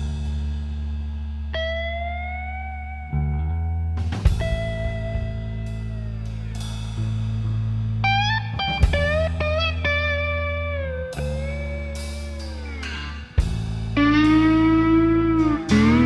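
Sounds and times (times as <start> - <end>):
steady bass: 0.0 - 16.0
blues guitar bending notes: 1.4 - 16.0.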